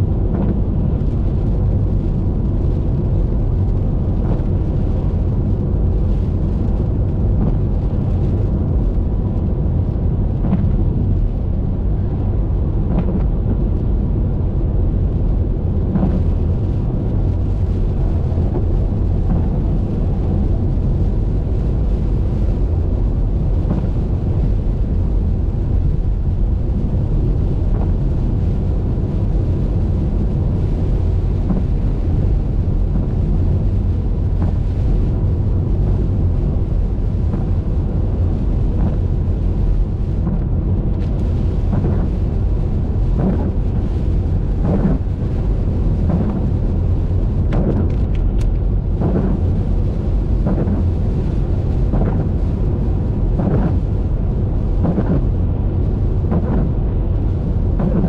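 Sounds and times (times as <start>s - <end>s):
car road and wind noise: 0.0s - 58.0s
raindrops ticking on windshield: 0.1s - 58.0s.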